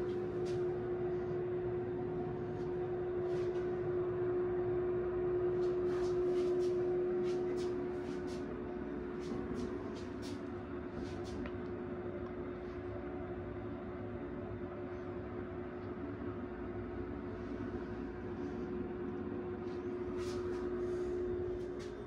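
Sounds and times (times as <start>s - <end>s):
machine hum with held tone: 0.0s - 22.0s.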